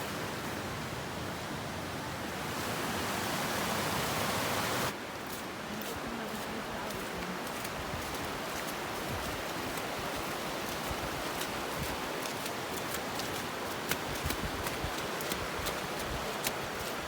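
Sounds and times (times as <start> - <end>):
water flowing: 3.1 - 17.0.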